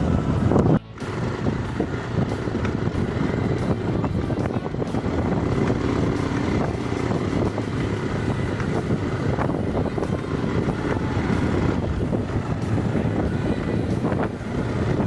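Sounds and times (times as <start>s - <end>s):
vehicle rumbling: 0.0s - 15.0s
wind buffeting microphone: 0.0s - 15.0s.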